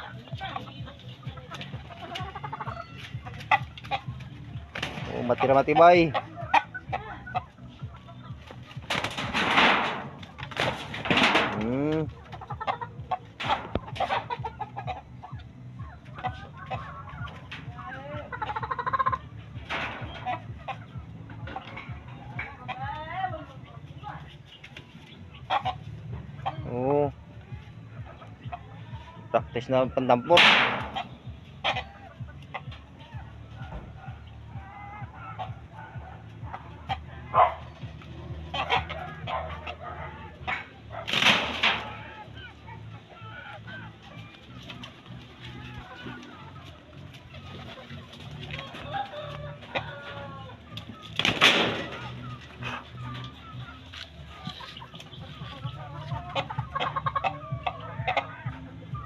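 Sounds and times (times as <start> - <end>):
roosters fighting slaps and scuffles: 0.0 - 15.0, 16.0 - 26.6, 30.4 - 34.2, 37.3 - 57.3
chickens clucking: 0.0 - 59.0.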